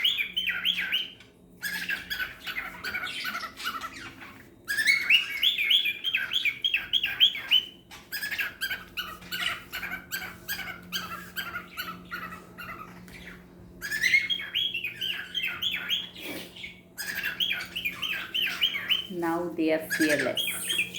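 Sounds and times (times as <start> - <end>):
cockatiels chirping: 0.0 - 20.9.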